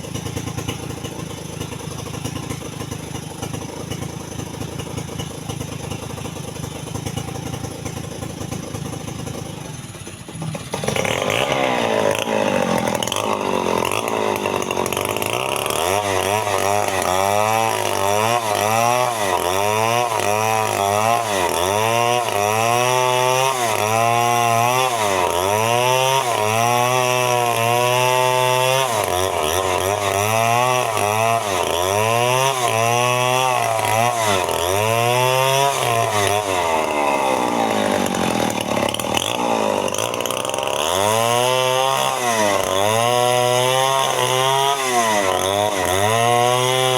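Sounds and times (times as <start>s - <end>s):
chainsaw cutting tree trunk: 0.0s - 46.9s.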